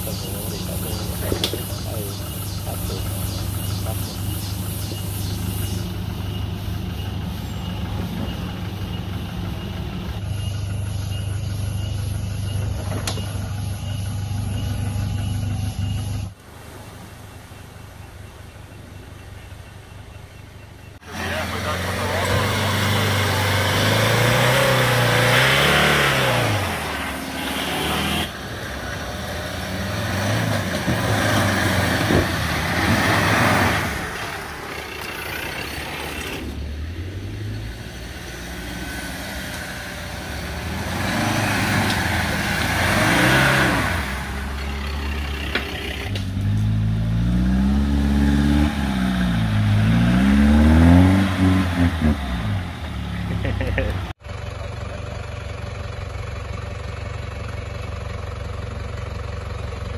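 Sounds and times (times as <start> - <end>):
off-road vehicle engines revving: 0.0 - 16.4, 21.0 - 54.2.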